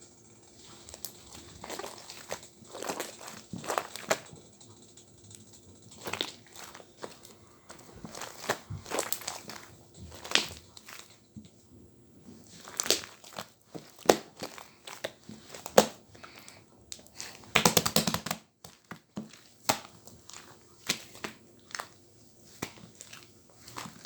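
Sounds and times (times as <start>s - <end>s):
slime crackling and popping: 0.1s - 11.6s, 12.2s - 24.0s.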